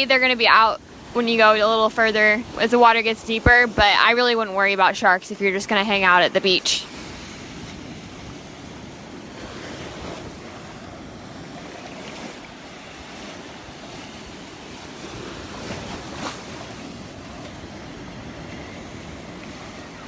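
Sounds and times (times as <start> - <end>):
surf washing onto beach: 0.0 - 20.0.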